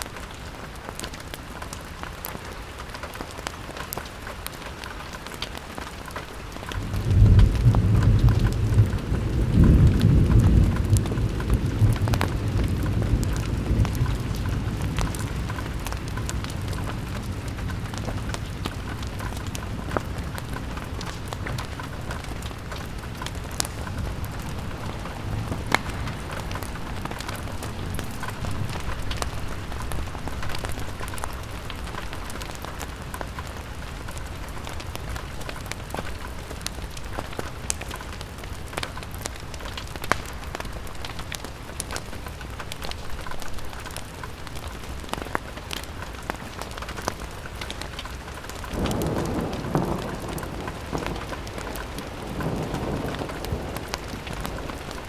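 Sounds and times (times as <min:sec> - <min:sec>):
rain on window: 0:00.0 - 0:55.0.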